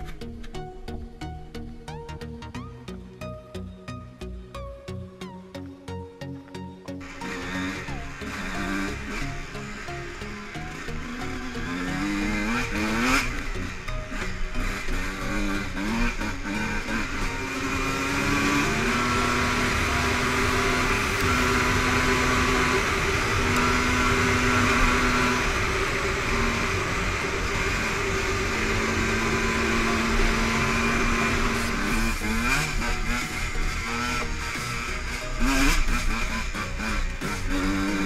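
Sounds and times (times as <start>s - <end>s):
dirt bike engine revving: 7.0s - 38.0s.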